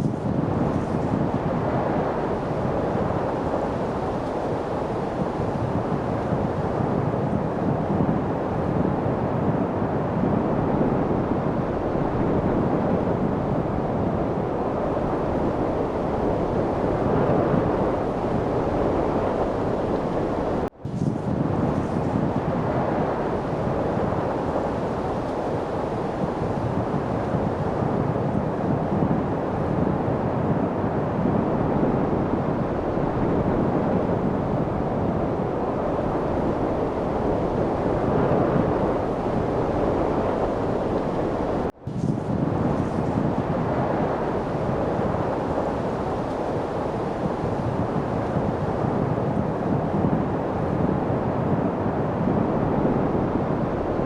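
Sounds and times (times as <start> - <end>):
steady rushing wind: 0.0 - 54.0.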